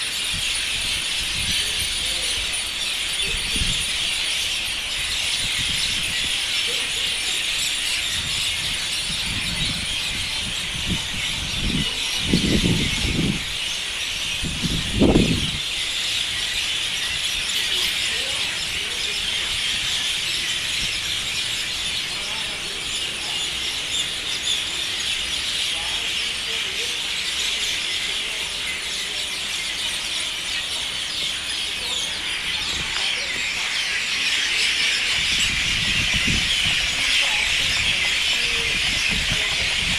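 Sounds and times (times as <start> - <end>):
flock of birds chattering: 0.0 - 39.9.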